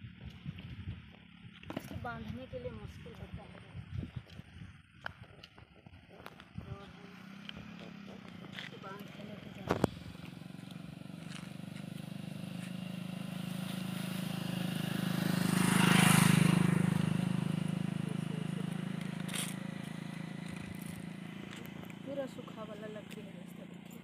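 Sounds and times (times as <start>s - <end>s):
motorcycle passing: 0.0s - 24.0s.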